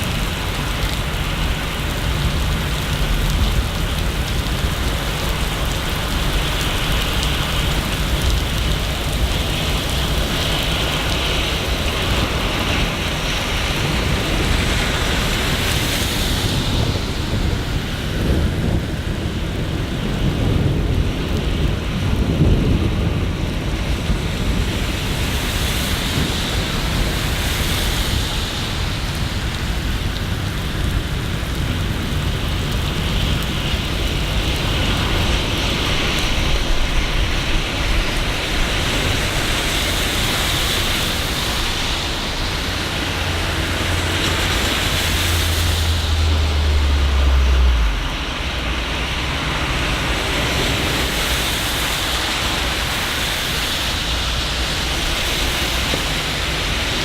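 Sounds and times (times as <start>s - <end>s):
deep continuous rumble: 0.0s - 57.0s
steady rain: 0.0s - 57.0s.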